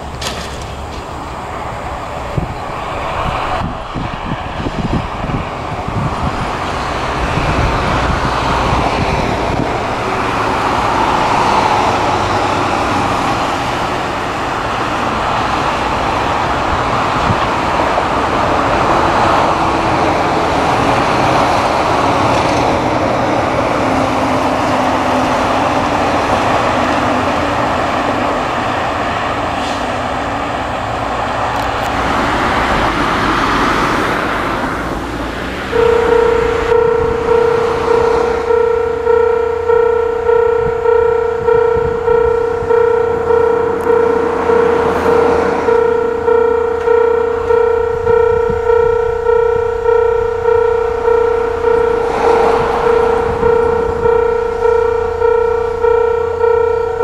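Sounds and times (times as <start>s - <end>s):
diesel train engine running: 0.0s - 57.0s.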